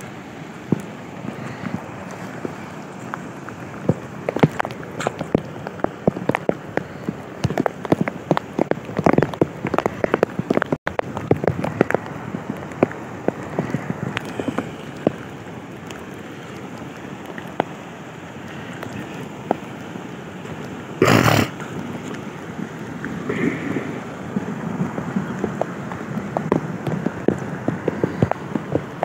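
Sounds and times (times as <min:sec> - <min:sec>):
heavy rain: 0:00.0 - 0:29.0
loud rush of noise: 0:00.0 - 0:29.0
runoff water streaming: 0:00.0 - 0:29.0.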